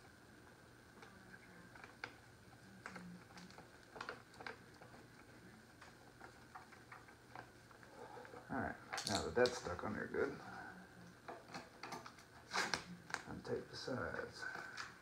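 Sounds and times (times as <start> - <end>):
faint low hum: 0.0 - 15.0
vinyl ticking and crackling: 0.0 - 15.0.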